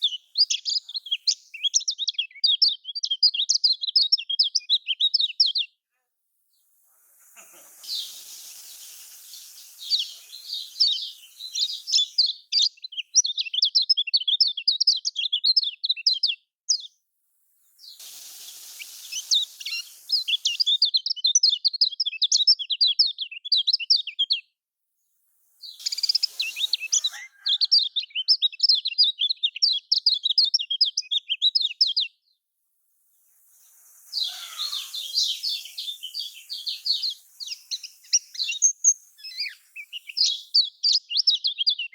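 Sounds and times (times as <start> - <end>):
bird twittering song: 0.0 - 5.7, 6.6 - 17.0, 17.7 - 24.4, 25.6 - 32.2, 33.3 - 41.9.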